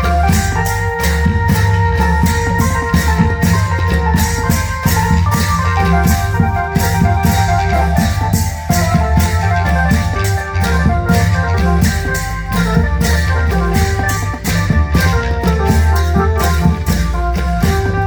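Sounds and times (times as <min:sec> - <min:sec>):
electronic keyboard melody: 0:00.0 - 0:18.0
heavy bass: 0:00.0 - 0:18.0
steady drum beat: 0:00.0 - 0:18.0.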